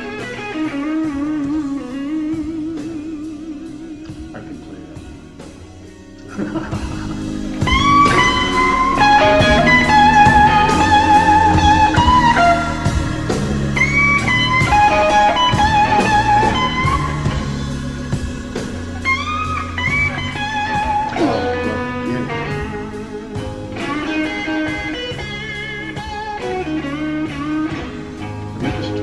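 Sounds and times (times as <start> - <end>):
bass: 0.0 - 29.0
drums: 0.0 - 29.0
electric guitar lead: 0.0 - 29.0.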